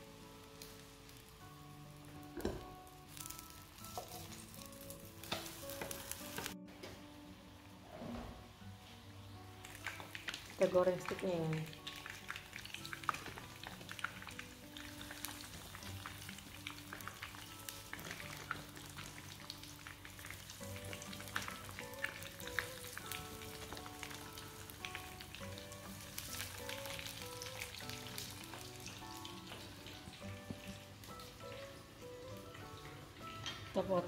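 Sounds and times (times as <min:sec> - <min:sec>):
food deep-frying in hot oil: 0:00.0 - 0:06.6, 0:09.3 - 0:34.0
oil popping and crackling: 0:00.0 - 0:06.6, 0:09.6 - 0:33.9
background music: 0:00.0 - 0:34.0.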